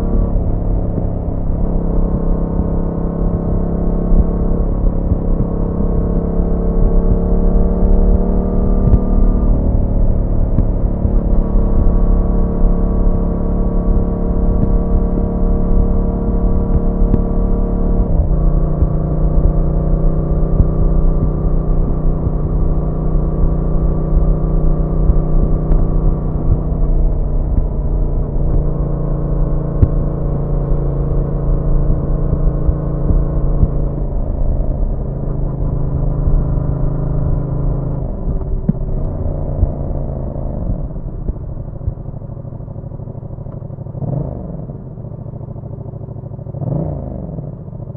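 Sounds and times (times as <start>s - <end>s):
motorcycle engine cruising: 0.0s - 47.9s.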